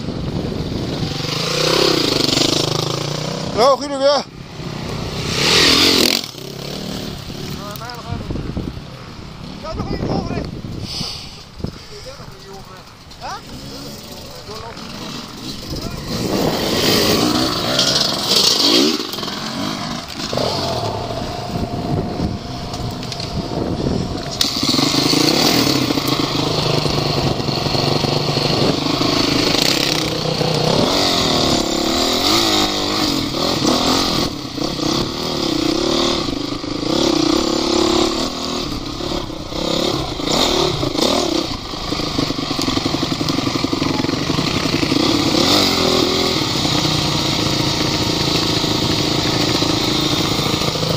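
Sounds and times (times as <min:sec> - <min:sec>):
off-road vehicle engine revving: 0:00.0 - 0:08.2, 0:13.2 - 0:50.9.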